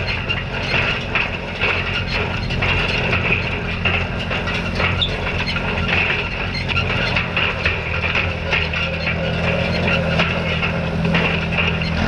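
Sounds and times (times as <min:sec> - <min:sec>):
hay rake clattering and rattling: 0:00.0 - 0:12.0
tractor engine running: 0:00.0 - 0:12.0.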